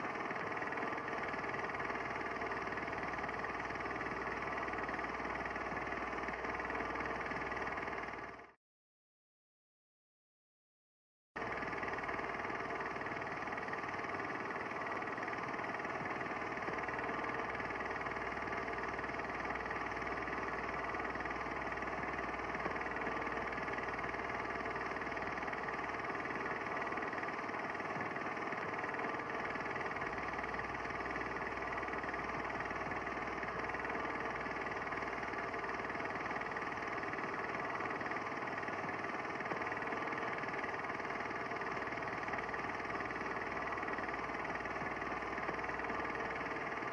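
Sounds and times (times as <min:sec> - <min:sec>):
steady mechanical hum: 0:00.0 - 0:08.3, 0:11.4 - 0:46.9.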